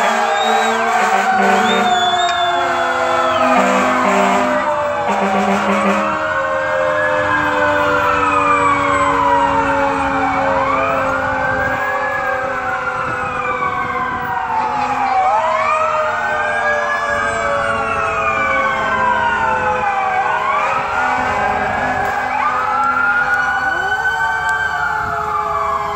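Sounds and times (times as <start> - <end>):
fire sirens wailing: 0.0 - 25.9.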